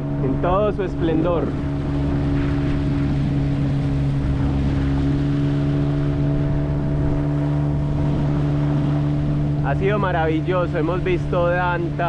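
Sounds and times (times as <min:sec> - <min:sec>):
outboard motor drone: 0:00.0 - 0:12.0.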